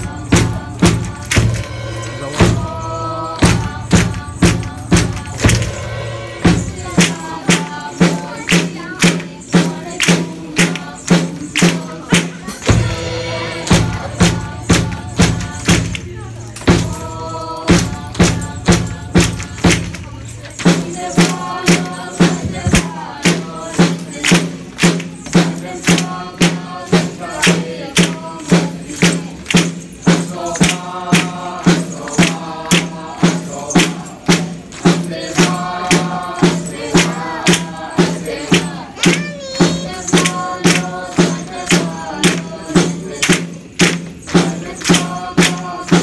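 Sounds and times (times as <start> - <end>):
music: 0.0 - 46.0.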